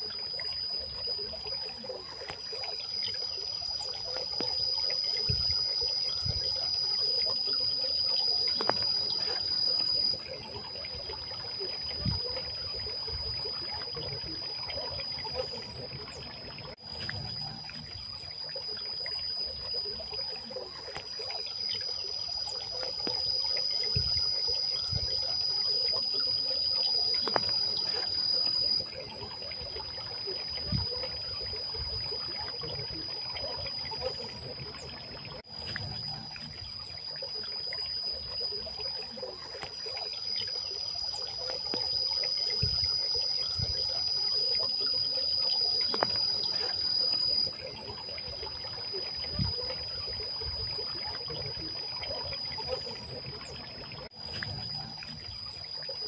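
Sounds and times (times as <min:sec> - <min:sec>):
high insect drone: 0:00.0 - 0:56.0
water trickling in a fountain: 0:00.0 - 0:56.0.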